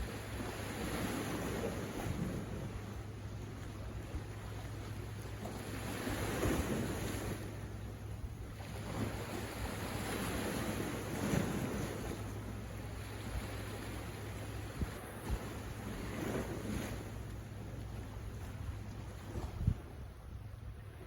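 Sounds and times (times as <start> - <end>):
sea waves breaking on beach: 0.0 - 21.0
wind rumble on microphone: 0.0 - 21.0.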